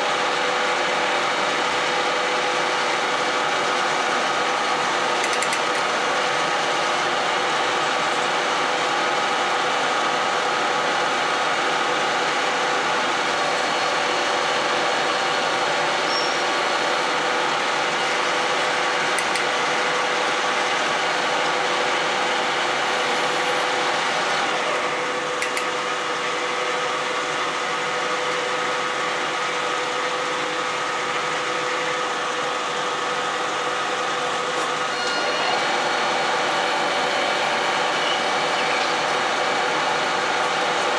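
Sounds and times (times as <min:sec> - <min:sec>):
metal lathe whining: 0:00.0 - 0:40.9.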